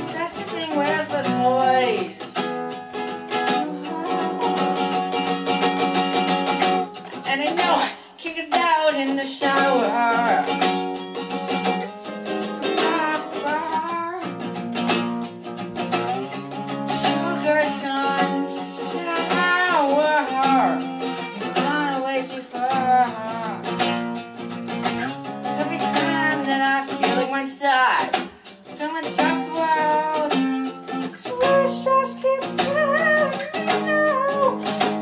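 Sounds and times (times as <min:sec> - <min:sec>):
person singing: 0:00.0 - 0:14.6, 0:16.0 - 0:24.1, 0:24.9 - 0:35.0
acoustic guitar strumming: 0:00.0 - 0:35.0.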